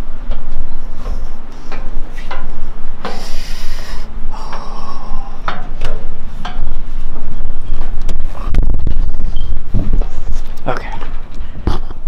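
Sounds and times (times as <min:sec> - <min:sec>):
footsteps on metal steps: 0:00.0 - 0:08.3, 0:09.1 - 0:11.9
constant low rumble: 0:00.0 - 0:12.0.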